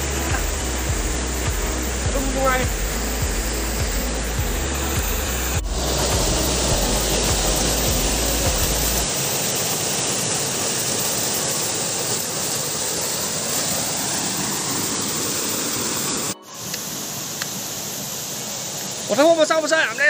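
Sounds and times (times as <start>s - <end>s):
quieter steady rushing: 0.0s - 20.0s
waterfall rushing: 0.0s - 20.0s.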